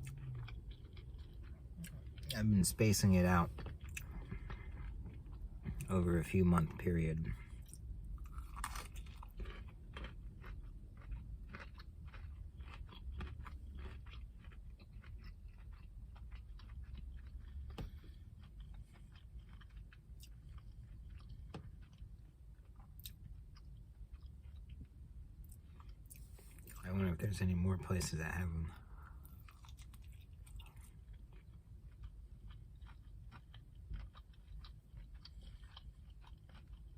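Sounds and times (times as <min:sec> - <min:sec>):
crunchy chewing: 0:00.0 - 0:36.9.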